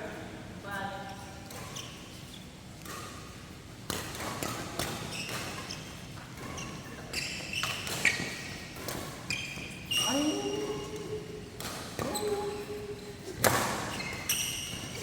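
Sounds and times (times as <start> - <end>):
shoes squeaking on court floor: 1.1 - 15.0.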